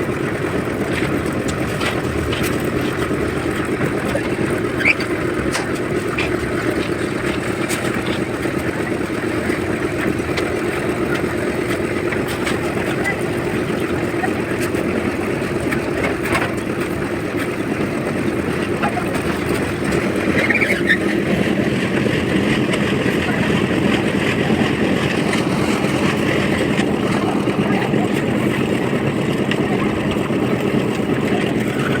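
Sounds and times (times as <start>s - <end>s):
concrete mixer engine droning: 0.0s - 32.0s.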